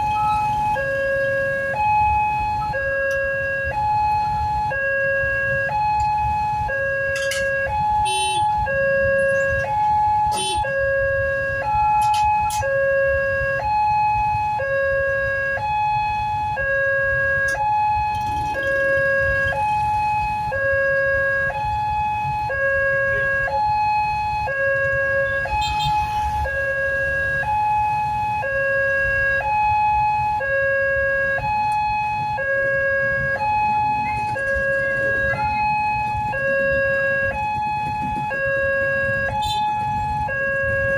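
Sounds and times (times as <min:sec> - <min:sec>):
two-tone level crossing siren: 0:00.0 - 0:40.9.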